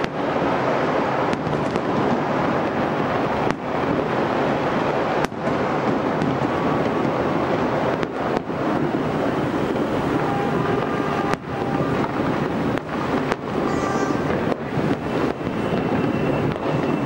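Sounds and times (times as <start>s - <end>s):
fireworks crackling and popping: 0.0s - 17.0s
sharp firework bangs: 0.0s - 17.0s.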